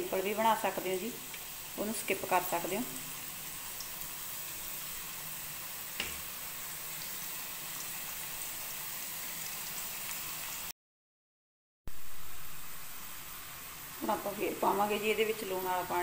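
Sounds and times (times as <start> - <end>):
potato slices deep-frying: 0.0 - 10.7, 12.0 - 16.0.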